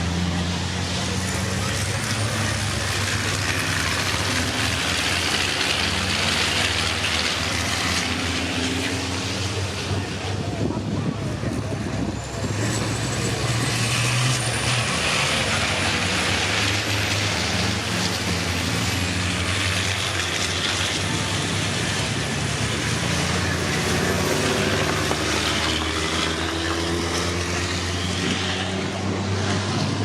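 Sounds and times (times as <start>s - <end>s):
racing truck engines droning: 0.0s - 30.0s.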